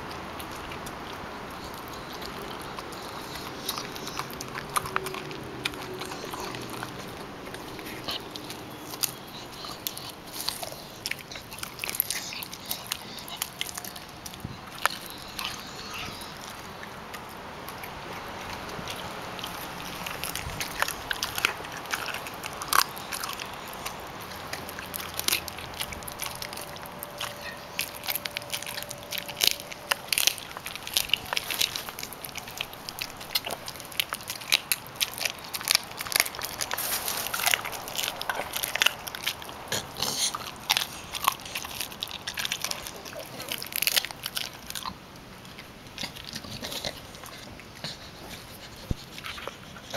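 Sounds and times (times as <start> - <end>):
dog crunching on bone: 0.0 - 49.9.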